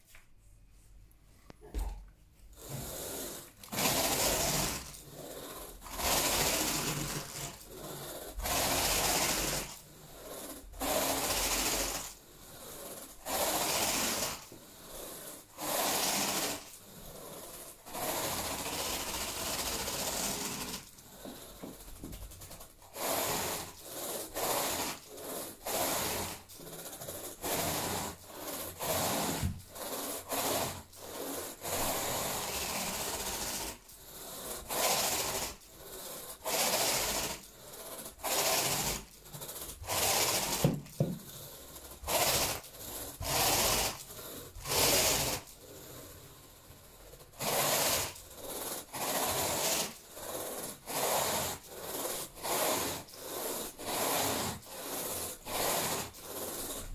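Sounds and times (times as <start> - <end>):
plastic rake scratching carpet: 2.6 - 46.1, 46.8 - 56.9.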